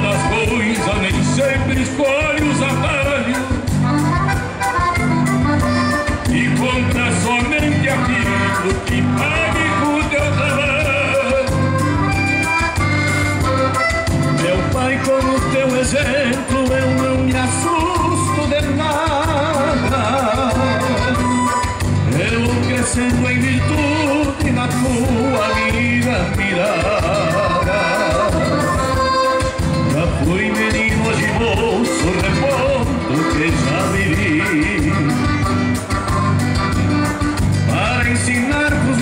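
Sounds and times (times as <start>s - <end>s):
man singing into a microphone: 0.0s - 4.6s, 5.9s - 12.7s, 13.7s - 36.1s, 37.6s - 39.0s
live folk band playing: 0.0s - 39.0s.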